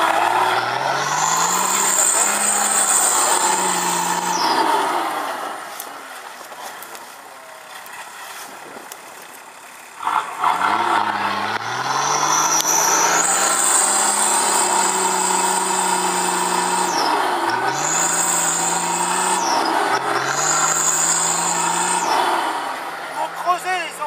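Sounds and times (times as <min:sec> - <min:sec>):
vehicle engine revving: 0:00.0 - 0:08.3, 0:09.2 - 0:23.6.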